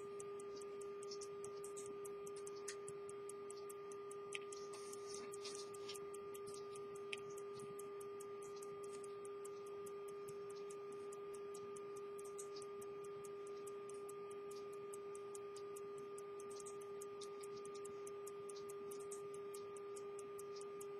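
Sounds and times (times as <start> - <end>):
pocket watch ticking: 0.0 - 20.9
steady hum: 0.0 - 20.9.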